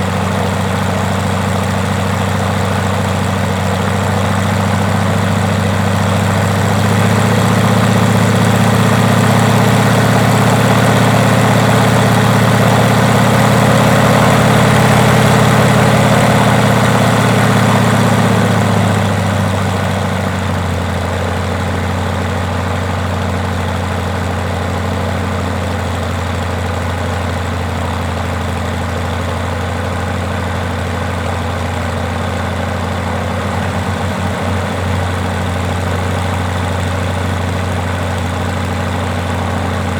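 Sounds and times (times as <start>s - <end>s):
radial engine running: 0.0s - 39.9s.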